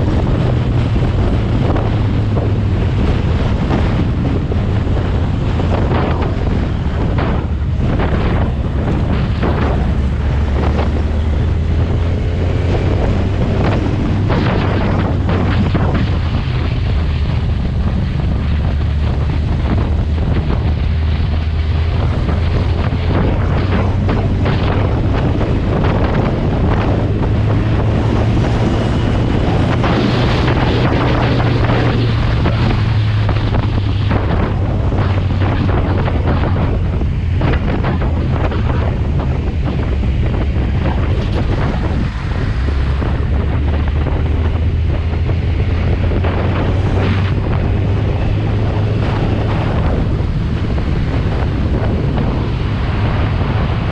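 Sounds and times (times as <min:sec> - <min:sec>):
motorcycle engine drone: 0:00.0 - 0:53.9
wind buffeting microphone: 0:00.0 - 0:53.9.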